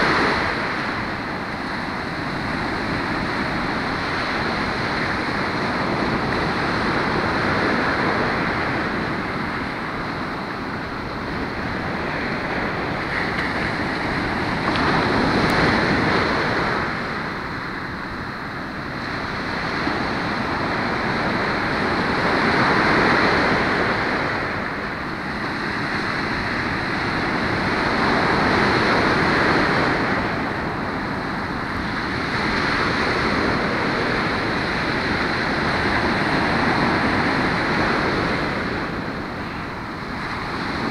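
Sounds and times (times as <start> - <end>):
ocean waves breaking on sand: 0.0 - 40.9.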